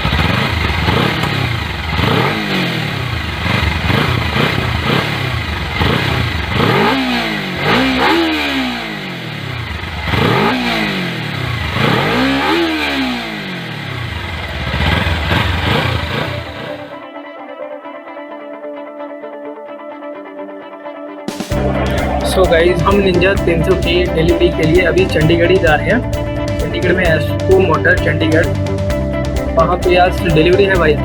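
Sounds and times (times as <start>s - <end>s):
motorcycle engine revving: 0.0s - 16.9s, 21.4s - 31.0s.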